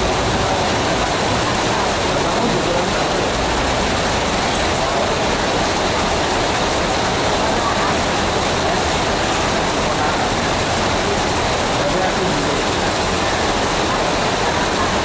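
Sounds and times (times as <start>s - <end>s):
heavy rain on pavement: 0.0s - 15.0s.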